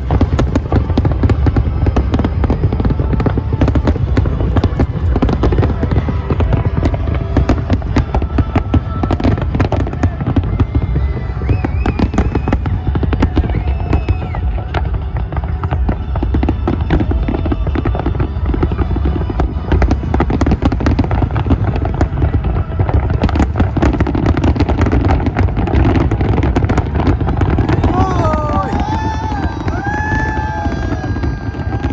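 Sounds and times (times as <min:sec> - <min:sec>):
fireworks bangs and crackles: 0:00.0 - 0:31.9.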